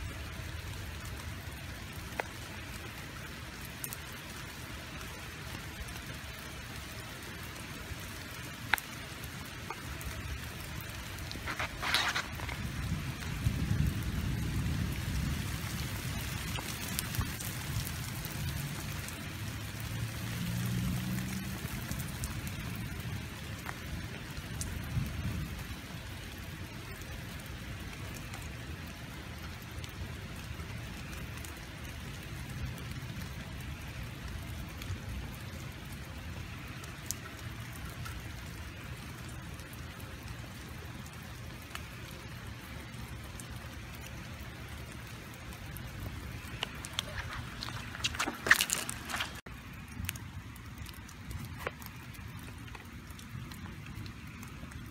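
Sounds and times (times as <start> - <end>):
rain on wet ground and gravel: 0.0 - 54.9.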